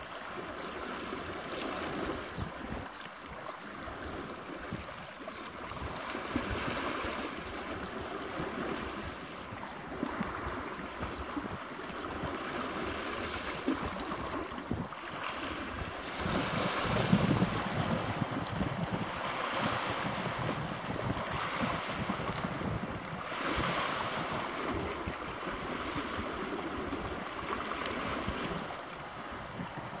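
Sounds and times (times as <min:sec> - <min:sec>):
wind and waves rushing: 0:00.0 - 0:30.0
wind buffeting microphone: 0:05.7 - 0:30.0.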